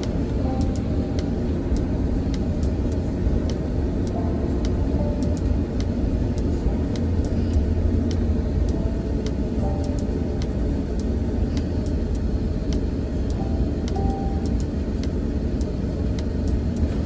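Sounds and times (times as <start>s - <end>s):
airliner cabin low rumble: 0.0s - 17.0s.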